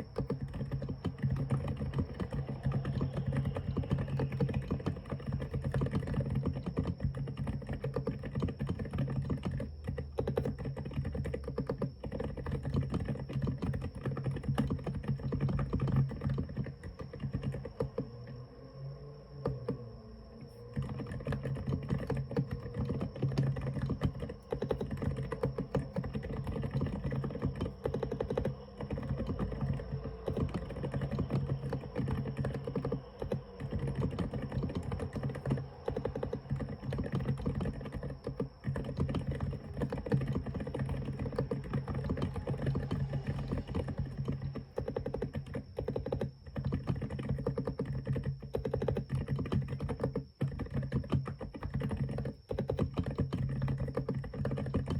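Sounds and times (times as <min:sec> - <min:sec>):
mechanical keyboard typing: 0:00.0 - 0:18.4, 0:19.3 - 0:54.9.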